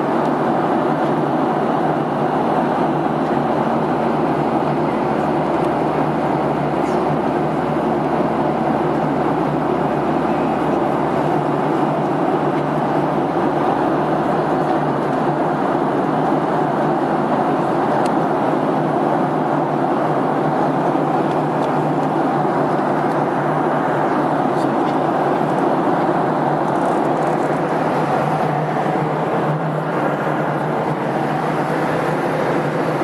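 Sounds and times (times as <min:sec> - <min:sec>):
airplane cabin noise: 0:00.0 - 0:33.0.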